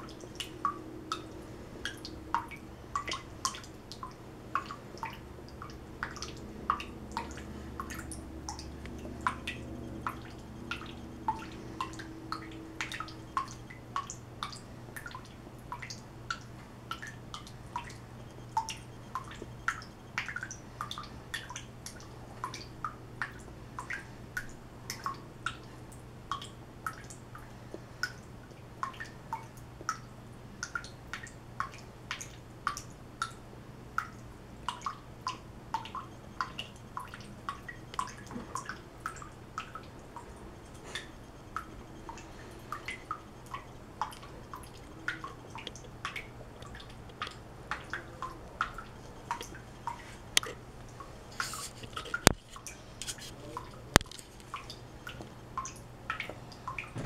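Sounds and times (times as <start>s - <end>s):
water dripping into sink: 0.0s - 51.1s, 53.4s - 57.0s.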